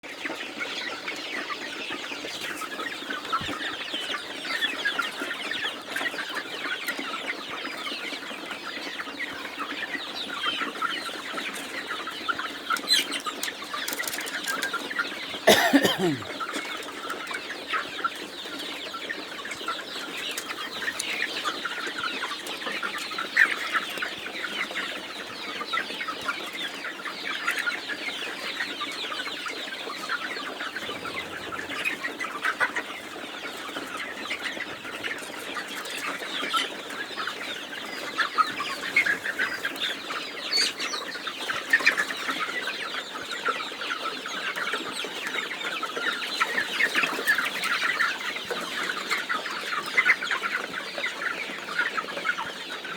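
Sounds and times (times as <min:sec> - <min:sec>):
chickens clucking and cheeping: 0:00.0 - 0:52.9.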